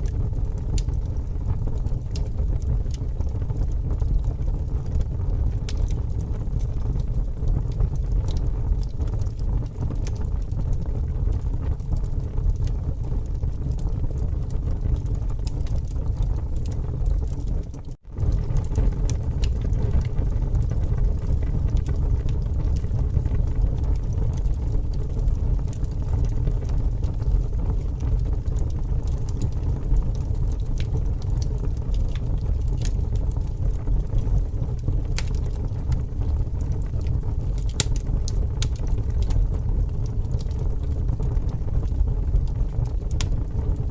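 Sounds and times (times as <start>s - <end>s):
bonfire crackling and popping: 0.0s - 43.9s
low rumble: 0.0s - 43.9s.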